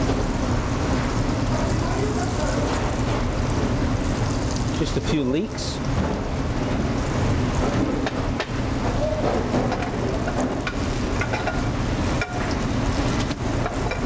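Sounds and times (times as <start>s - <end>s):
leeks sizzling in a pan: 0.0s - 14.0s.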